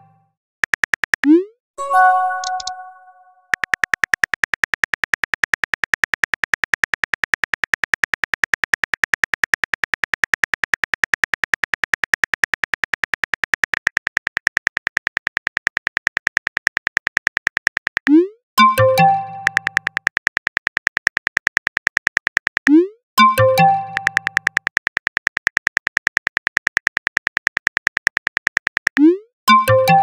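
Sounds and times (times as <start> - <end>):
phone keyboard typing clicks: 2.2 - 2.9, 3.5 - 29.1.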